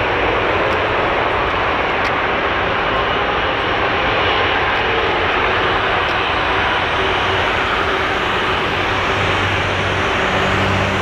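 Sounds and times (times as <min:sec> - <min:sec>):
jet engines running at low thrust: 0:00.0 - 0:11.0.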